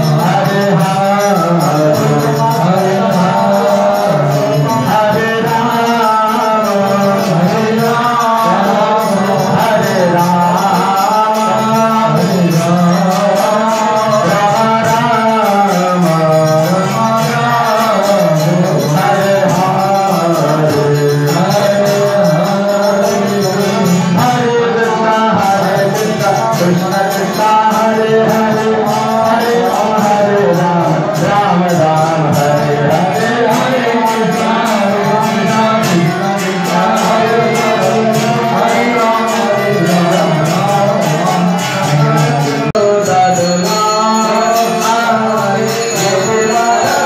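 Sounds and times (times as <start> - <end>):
devotional chanting: 0.0 - 47.0
jingling hand percussion: 0.0 - 47.0.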